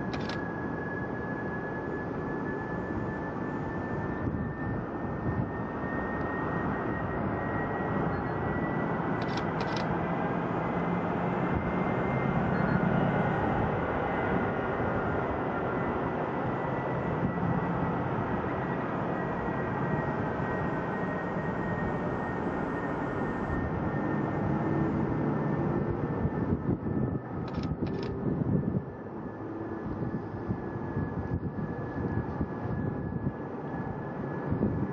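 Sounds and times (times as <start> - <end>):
jet airliner engines running: 0.0 - 34.9.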